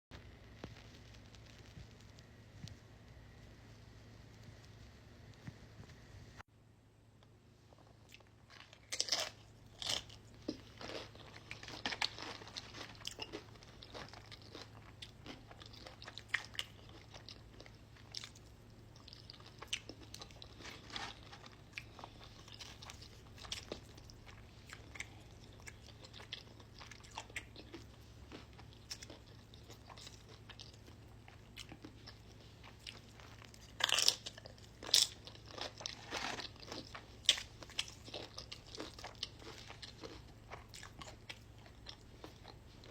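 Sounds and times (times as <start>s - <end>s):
person crunching chips: 7.7s - 42.9s.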